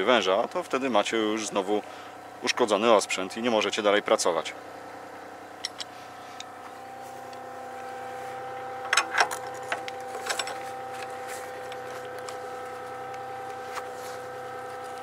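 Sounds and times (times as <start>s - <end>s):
excavator engine idling: 0.0s - 15.0s.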